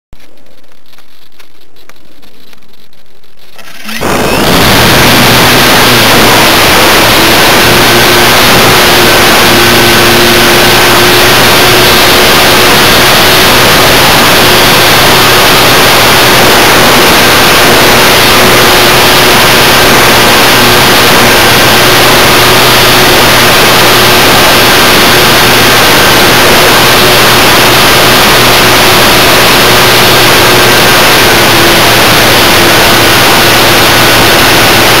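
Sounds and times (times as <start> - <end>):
propeller wash and wind hiss: 0.6 - 35.0
electric motor whine: 3.3 - 35.0.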